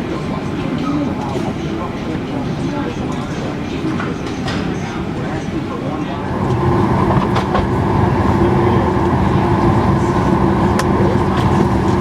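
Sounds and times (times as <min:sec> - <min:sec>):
aircraft cabin hum and air noise: 0:00.0 - 0:12.0.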